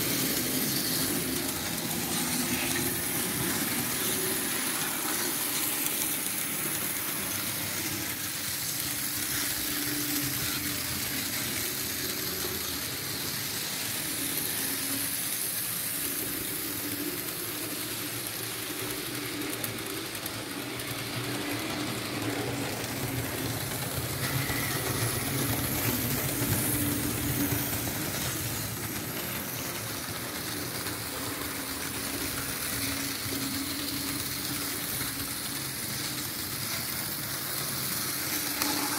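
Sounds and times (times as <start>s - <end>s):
model train whirring on track: 0.0s - 38.9s.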